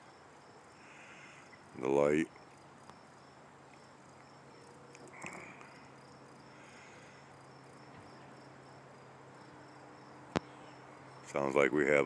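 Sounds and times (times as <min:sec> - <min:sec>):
crickets chirping: 0:00.0 - 0:12.0
short high insect call: 0:00.0 - 0:12.0
steady low hum: 0:00.0 - 0:12.0.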